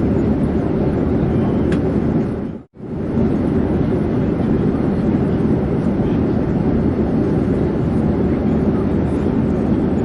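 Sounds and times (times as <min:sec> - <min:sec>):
airplane engine drone: 0:00.0 - 0:10.0.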